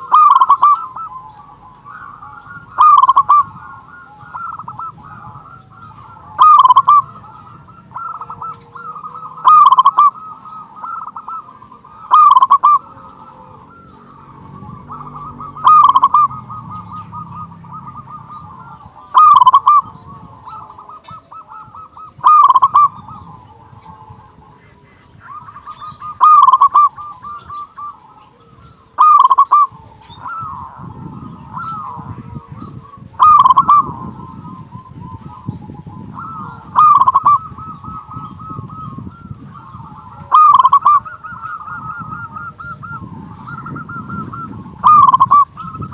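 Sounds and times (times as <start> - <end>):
loud dove call: 0.0 - 45.9
soft dove cooing: 0.0 - 45.9.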